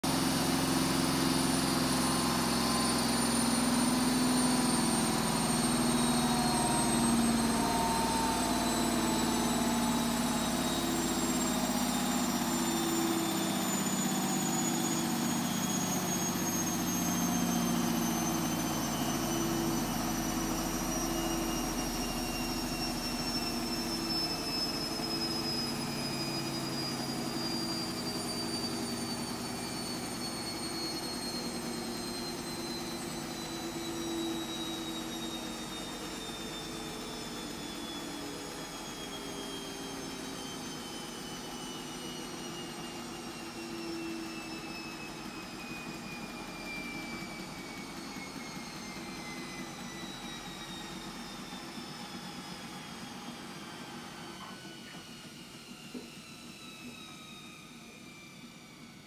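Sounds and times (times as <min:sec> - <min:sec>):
washing machine motor whine: 0:00.0 - 0:59.0.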